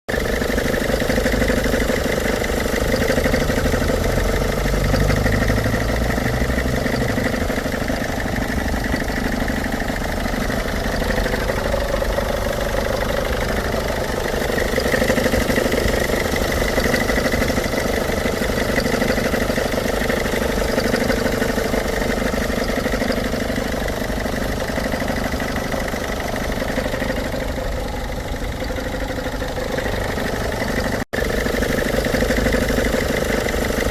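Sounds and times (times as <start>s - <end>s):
engine idling: 0.1s - 33.9s.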